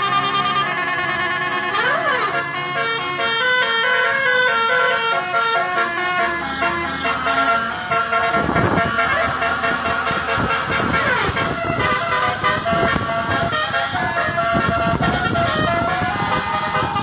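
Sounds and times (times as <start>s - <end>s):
multi-tone horn playing tune: 0.0s - 17.0s.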